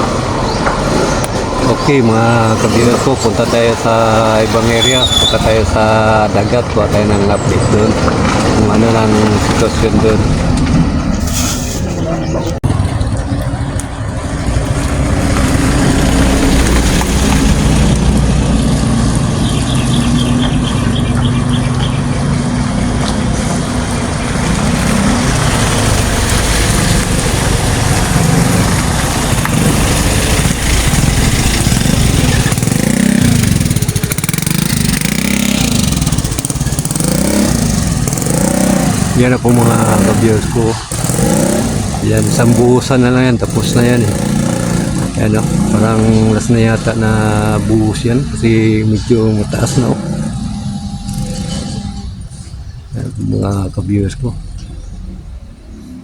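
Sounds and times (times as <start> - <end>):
motor vehicle engine running: 0.0 - 56.0.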